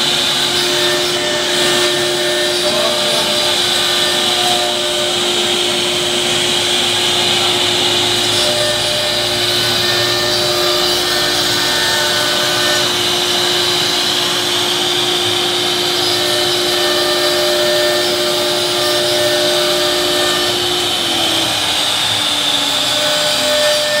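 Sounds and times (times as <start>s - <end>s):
router cutting with loud whirring: 0.0s - 24.0s.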